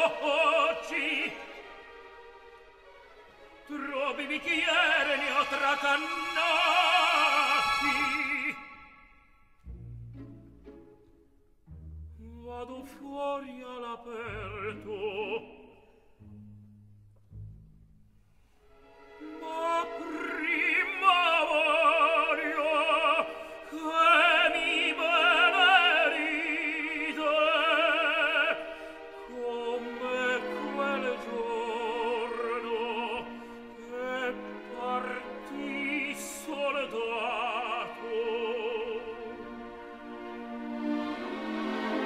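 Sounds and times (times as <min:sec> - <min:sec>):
operatic tenor singing: 0:00.0 - 0:09.1, 0:12.1 - 0:16.4, 0:19.1 - 0:42.0
orchestra playing softly: 0:00.0 - 0:42.0.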